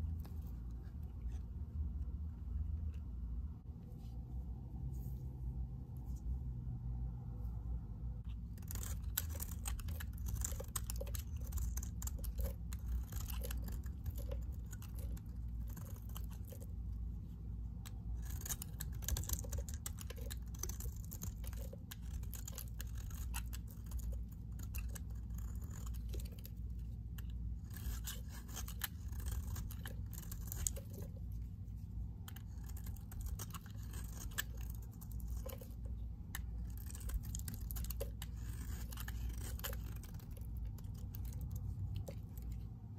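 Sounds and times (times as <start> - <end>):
knife scraping soap: 8.3 - 42.9.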